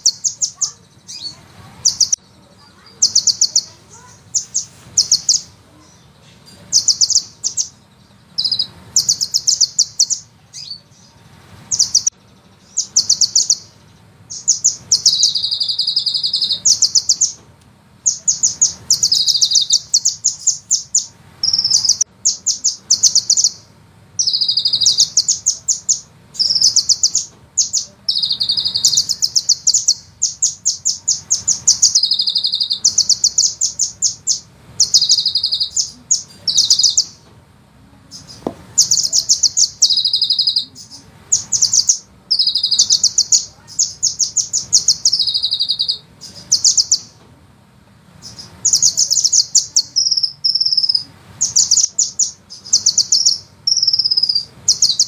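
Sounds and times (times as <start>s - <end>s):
sunbird high-pitched trills: 0.0s - 17.4s, 18.0s - 37.3s, 38.0s - 47.2s, 48.2s - 55.0s.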